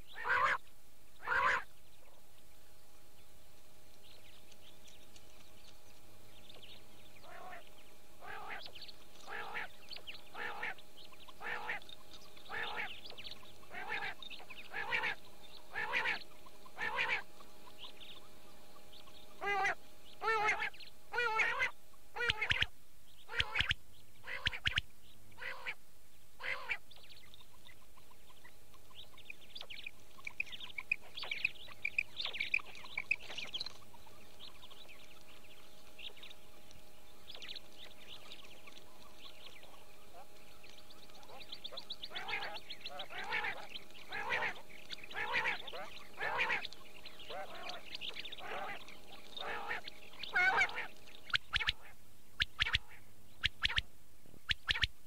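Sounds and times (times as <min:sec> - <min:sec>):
faint steady hum: 0:00.0 - 0:55.0
quail calling: 0:00.1 - 0:01.7, 0:06.6 - 0:25.8, 0:26.4 - 0:55.0.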